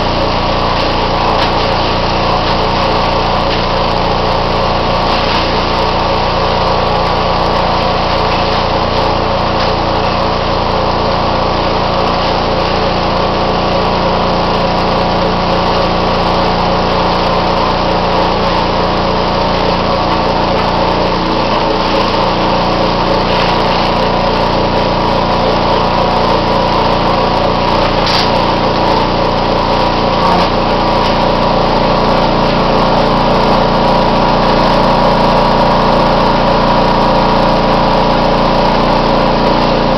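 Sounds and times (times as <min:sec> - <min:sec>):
machine hum with held tones: 0:00.0 - 0:39.9.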